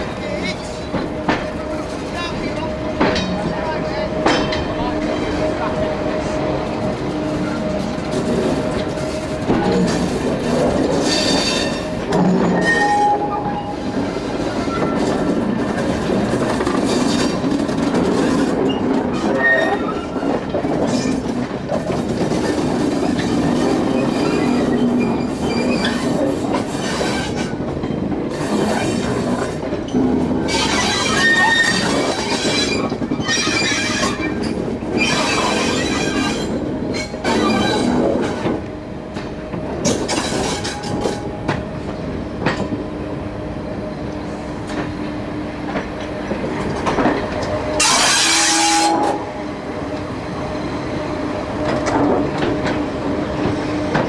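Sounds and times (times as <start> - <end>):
train wheels rumbling and clattering: 0.0 - 54.0.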